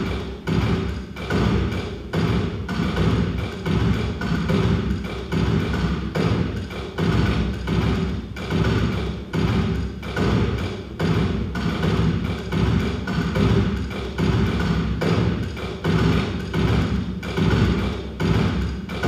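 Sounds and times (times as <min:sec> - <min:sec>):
electronic percussive music: 0:00.0 - 0:19.0.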